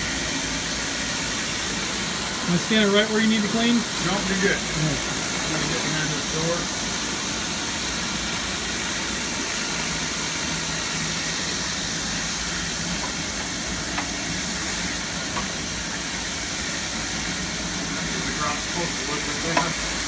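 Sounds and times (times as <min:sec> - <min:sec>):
cleaning tool spraying and vacuuming: 0:00.0 - 0:20.0.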